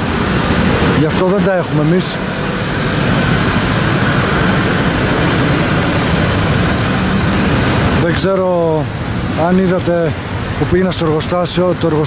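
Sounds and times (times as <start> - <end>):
low engine hum: 0.0 - 12.0
street traffic noise: 0.0 - 12.0.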